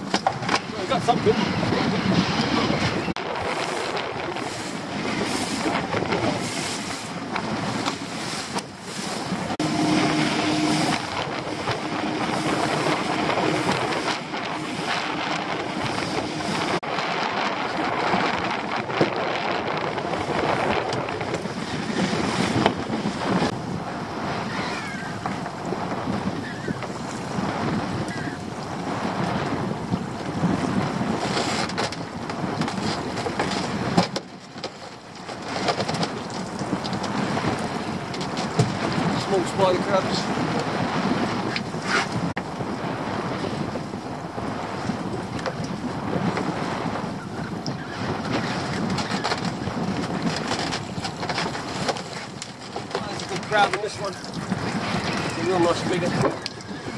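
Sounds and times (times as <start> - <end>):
water splashing against boat hull: 0.0 - 56.9
wind buffeting microphone: 0.0 - 56.9.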